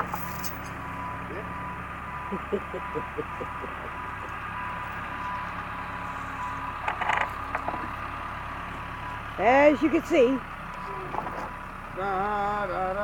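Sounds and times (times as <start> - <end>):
backhoe engine running: 0.0 - 13.0.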